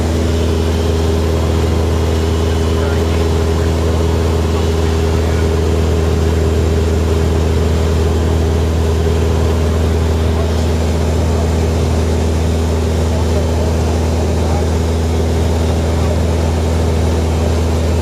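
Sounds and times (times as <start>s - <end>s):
small plane engine droning: 0.0s - 18.0s.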